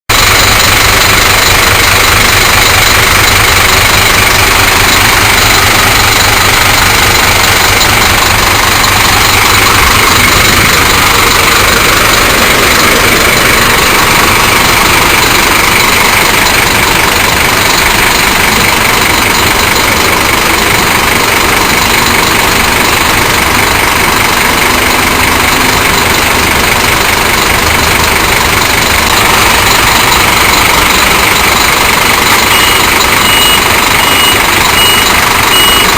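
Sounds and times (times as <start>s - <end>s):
diesel engine idling: 0.1s - 35.9s.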